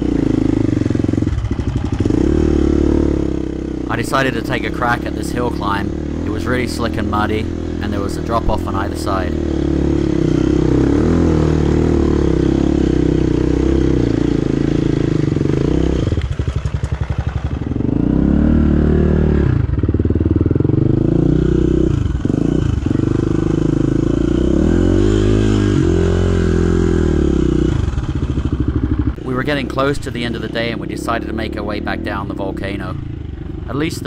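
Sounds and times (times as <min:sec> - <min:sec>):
dirt bike engine revving hard: 0:00.0 - 0:34.0.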